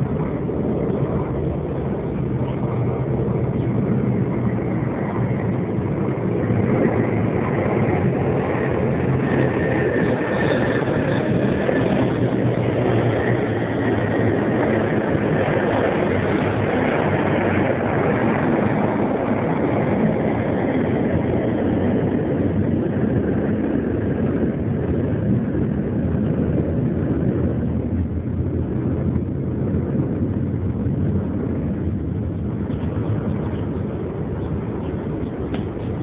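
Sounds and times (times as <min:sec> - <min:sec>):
vehicle rumbling: 0:00.0 - 0:36.0.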